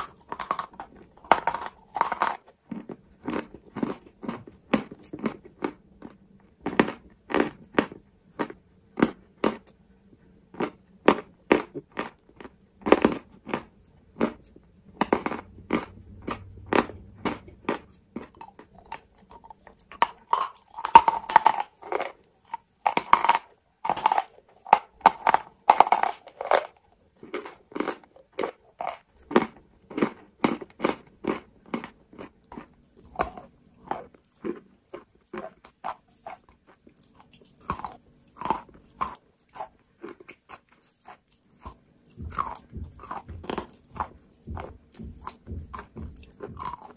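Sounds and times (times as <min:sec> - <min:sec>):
crunching and chewing chalk: 0:00.0 - 0:46.9.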